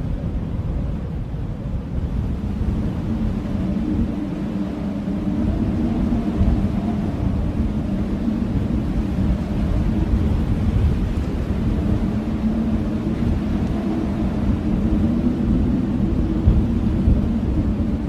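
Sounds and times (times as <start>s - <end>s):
blizzard wind howling: 0.0s - 18.0s.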